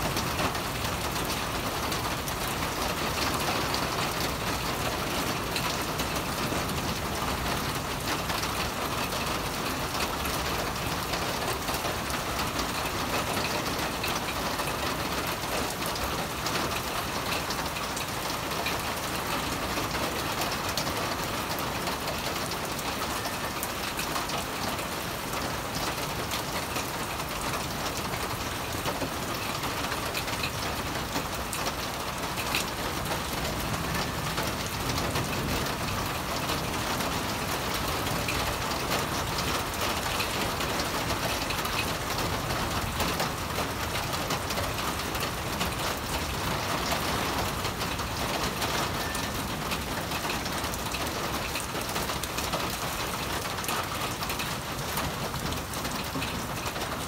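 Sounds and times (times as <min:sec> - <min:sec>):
rain falling on wet ground: 0:00.0 - 0:57.0.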